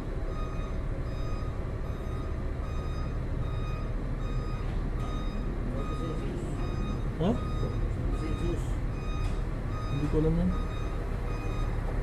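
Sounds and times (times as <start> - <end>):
low engine rumble: 0.0 - 12.0
vehicle reversing alarm beeping: 0.0 - 12.0.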